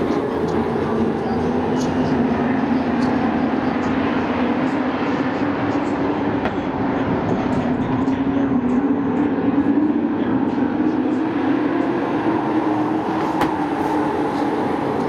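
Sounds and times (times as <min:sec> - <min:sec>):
race truck engines at speed: 0:00.0 - 0:15.0.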